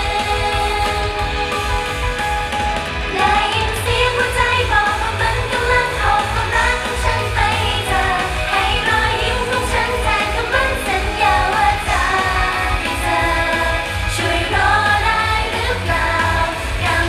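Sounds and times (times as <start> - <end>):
women singing upbeat pop song: 0.0 - 2.1, 3.0 - 17.0
backing track with bass beat: 0.0 - 17.0.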